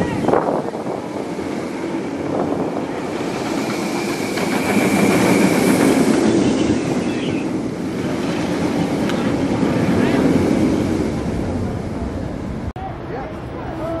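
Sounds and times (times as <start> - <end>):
roller coaster rumbling past: 0.0 - 14.0.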